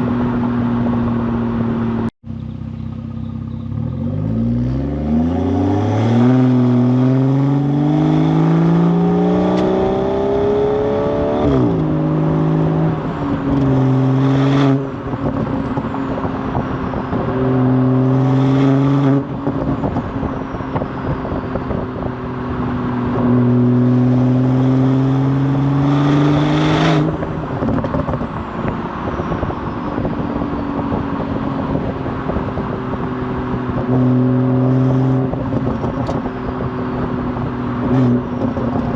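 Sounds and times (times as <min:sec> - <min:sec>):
car engine revving: 0:03.0 - 0:38.9.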